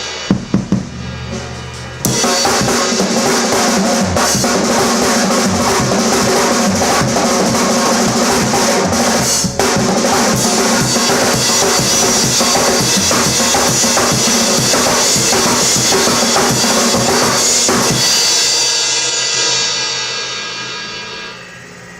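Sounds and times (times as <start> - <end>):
fast drum kit playing: 0.0 - 21.4
cymbals ringing: 0.0 - 21.9.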